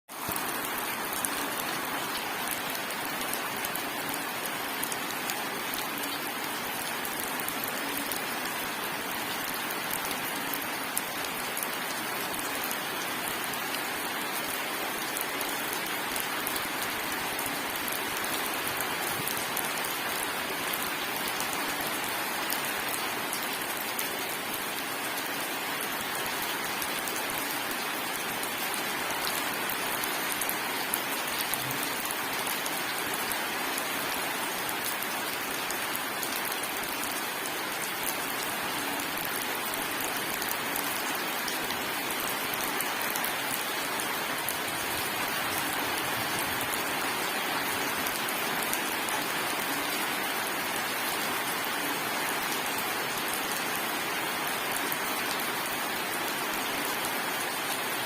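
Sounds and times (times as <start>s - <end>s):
raindrops ticking on a surface: 0.1s - 55.7s
steady rain hiss: 0.1s - 58.0s.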